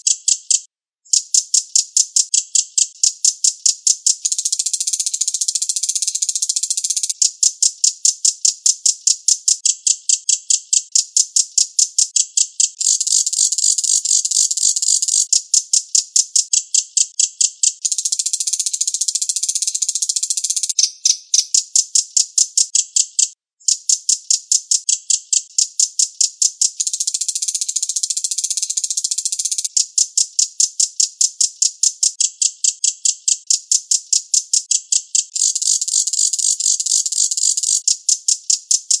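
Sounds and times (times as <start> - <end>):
songbird rattling trill: 0.0 - 39.0.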